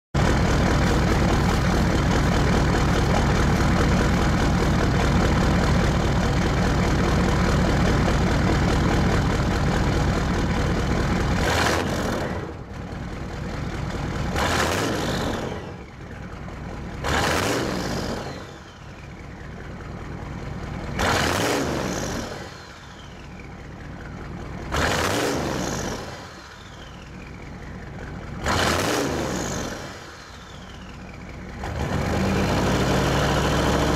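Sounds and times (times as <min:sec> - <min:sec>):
diesel engine running: 0:00.1 - 0:33.9
engine revving: 0:00.2 - 0:12.7, 0:13.9 - 0:16.0, 0:16.9 - 0:18.9, 0:20.9 - 0:23.7, 0:24.6 - 0:27.2, 0:28.3 - 0:33.9.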